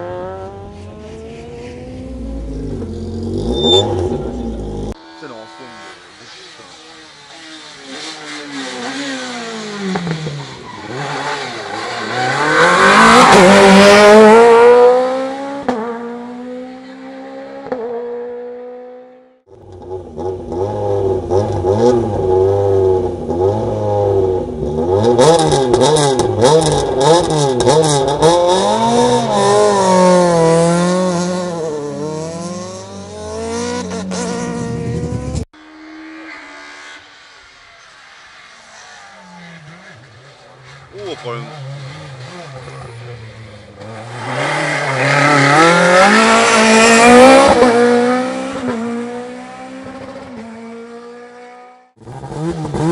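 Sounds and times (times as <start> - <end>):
rally car accelerating through gears: 0.0 - 37.1, 38.6 - 52.9
rally car engine revving: 0.0 - 52.9.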